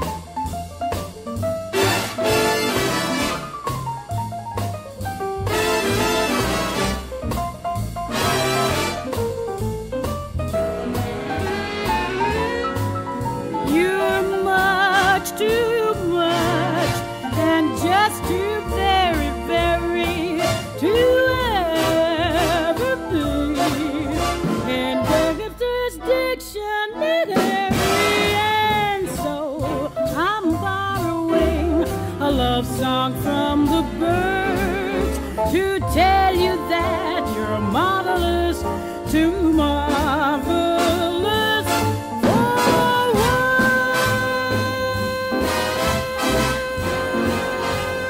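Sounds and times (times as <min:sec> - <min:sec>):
big band jazz with horns: 0:00.0 - 0:48.0.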